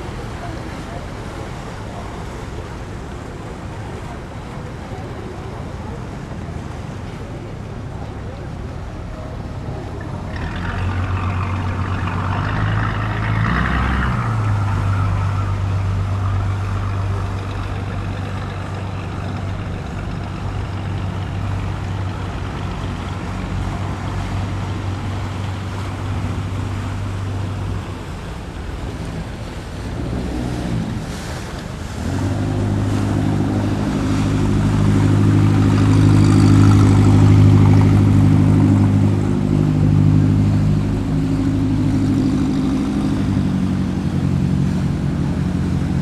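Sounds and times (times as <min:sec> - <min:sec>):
large vehicle engine humming: 0:00.0 - 0:46.0.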